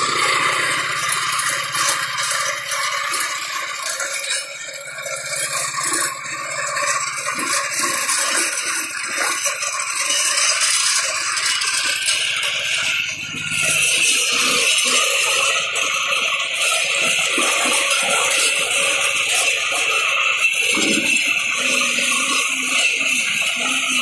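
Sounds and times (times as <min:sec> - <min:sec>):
mower blades metallic rattle: 0:00.0 - 0:24.0
tractor engine running: 0:00.0 - 0:24.0.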